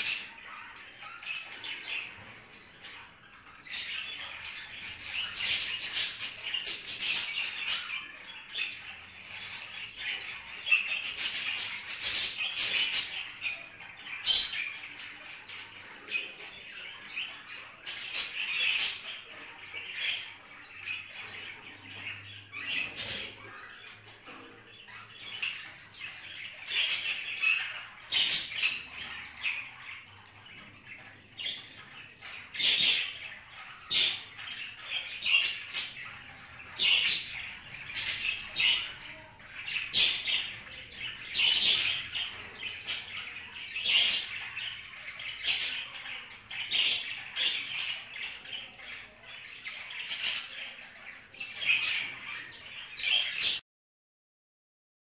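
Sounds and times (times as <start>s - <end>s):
budgerigars chattering and squawking: 0.0s - 53.6s.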